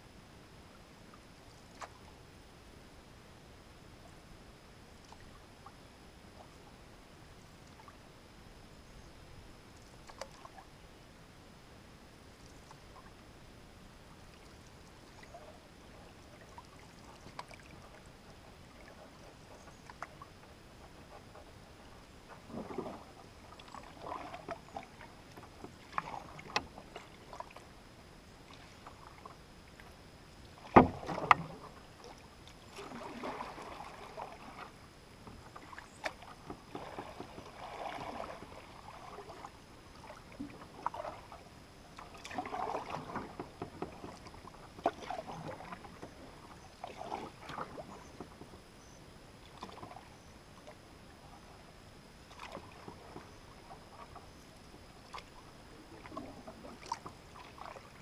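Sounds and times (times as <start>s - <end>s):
paddle strokes through water: 1.0s - 2.3s, 3.9s - 8.2s, 8.8s - 11.2s, 12.0s - 58.0s.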